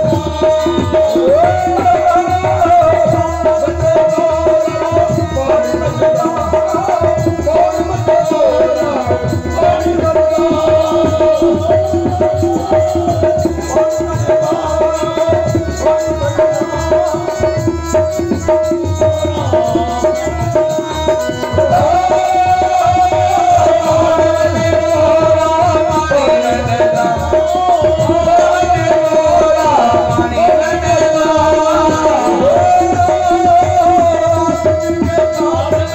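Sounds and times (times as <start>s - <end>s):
fast hand drum rhythm: 0.0s - 35.9s.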